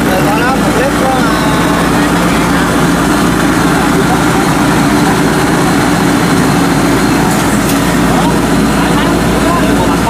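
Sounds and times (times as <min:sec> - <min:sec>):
harvester engine running steadily: 0:00.0 - 0:10.0.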